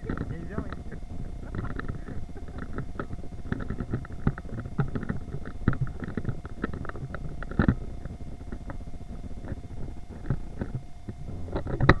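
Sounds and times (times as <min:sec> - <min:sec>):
camera rumbling and knocking: 0:00.0 - 0:12.0.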